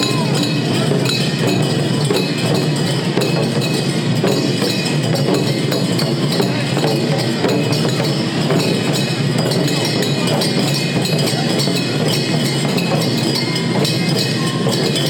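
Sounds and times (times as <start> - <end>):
hand cymbals clanging: 0.0 - 15.0
taiko drum beating: 0.0 - 15.0.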